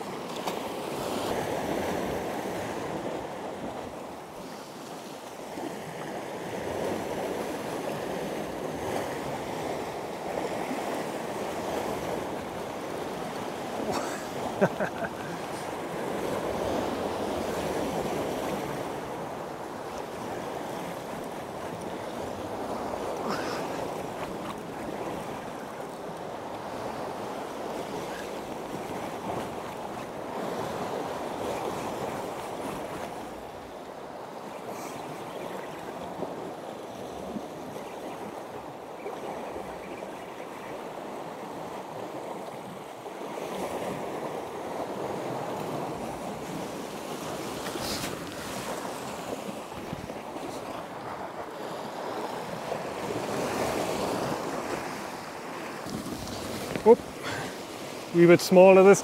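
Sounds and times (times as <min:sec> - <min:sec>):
surf washing against rocks: 0:00.0 - 0:59.0
wind: 0:00.0 - 0:59.0.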